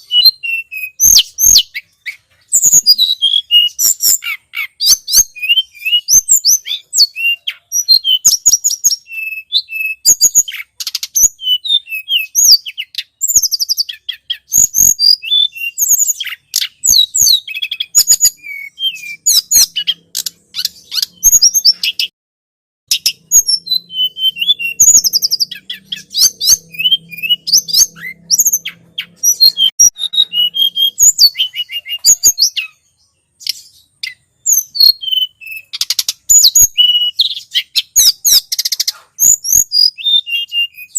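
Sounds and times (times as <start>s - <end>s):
bird chirping and ticking: 0.0s - 22.1s, 22.9s - 40.9s.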